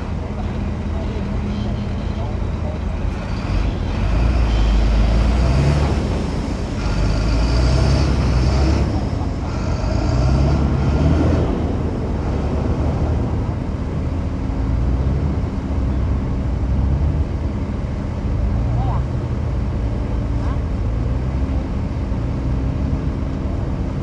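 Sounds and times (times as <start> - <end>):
diesel engine revving under load: 0.0 - 24.0.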